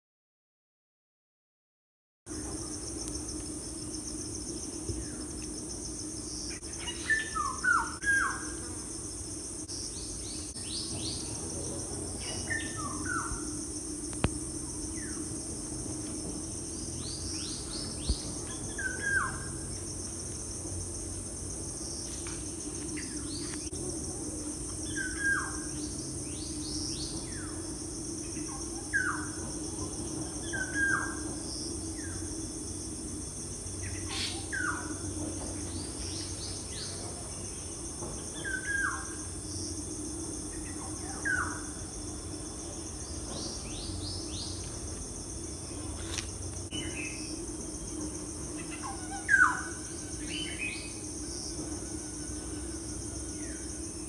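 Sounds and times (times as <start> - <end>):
low hum: 2.3 - 54.0.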